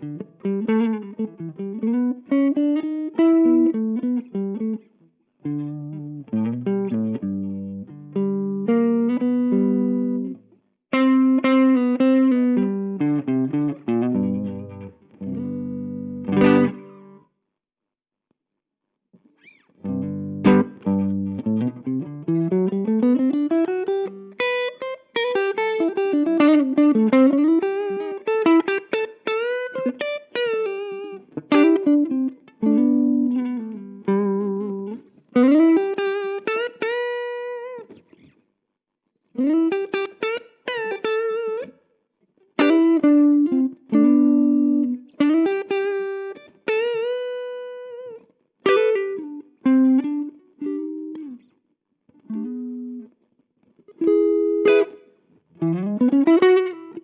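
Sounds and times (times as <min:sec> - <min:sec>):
electric guitar lead lines: 0:05.4 - 0:10.4, 0:11.0 - 0:17.2, 0:19.4 - 0:38.3, 0:39.4 - 0:41.7, 0:42.6 - 0:51.5, 0:52.1 - 0:57.0.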